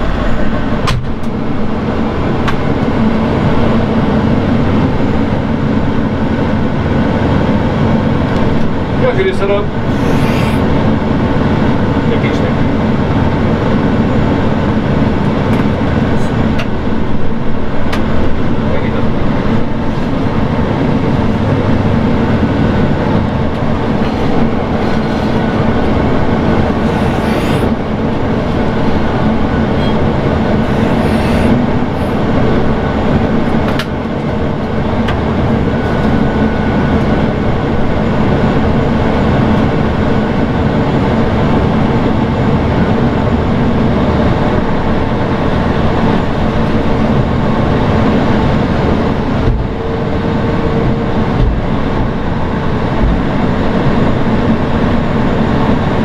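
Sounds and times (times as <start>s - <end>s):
aircraft tug engine rumble: 0.0s - 56.0s.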